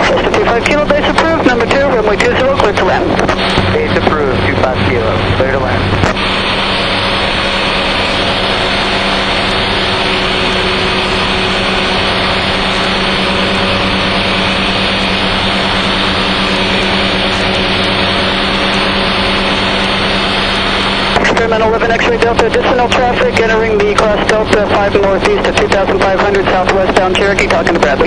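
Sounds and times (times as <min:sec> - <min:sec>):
rushing wind noise: 0:00.0 - 0:25.2
aircraft engine hum: 0:00.0 - 0:28.0.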